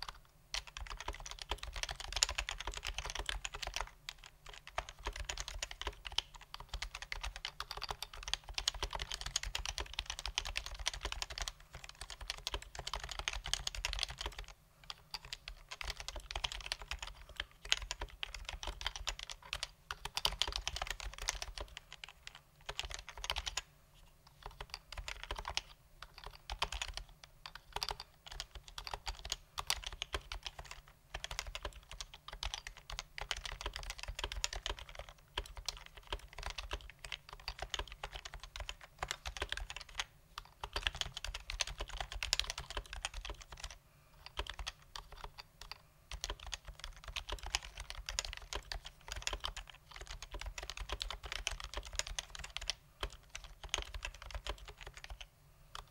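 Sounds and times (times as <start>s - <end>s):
keyboard typing: 0.0s - 55.9s.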